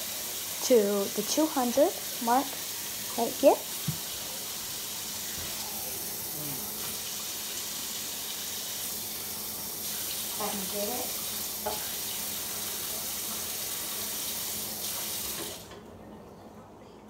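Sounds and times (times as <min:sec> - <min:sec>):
tap water running into cup: 0:00.0 - 0:15.9.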